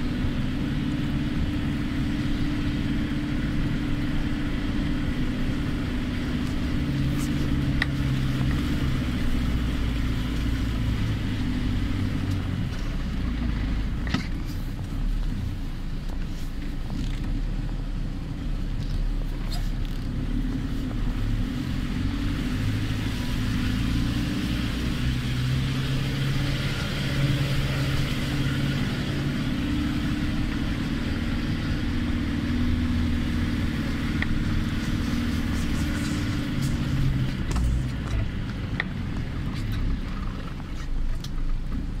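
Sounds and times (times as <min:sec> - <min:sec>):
diesel engine pulling uphill: 0:00.0 - 0:42.0.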